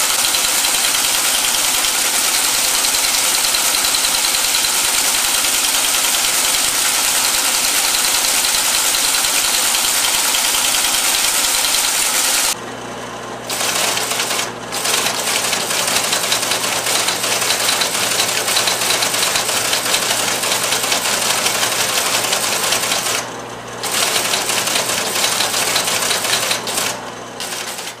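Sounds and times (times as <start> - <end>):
teletype machine clatter: 0.0 - 12.6, 13.5 - 28.0.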